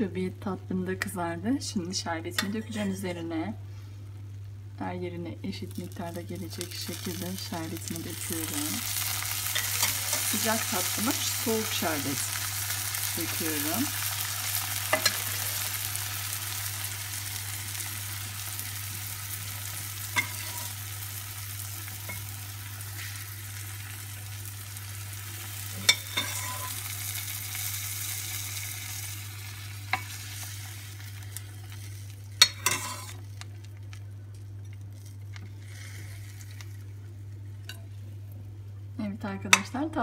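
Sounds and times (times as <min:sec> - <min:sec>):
pastry sizzling under syrup: 0:02.2 - 0:40.0.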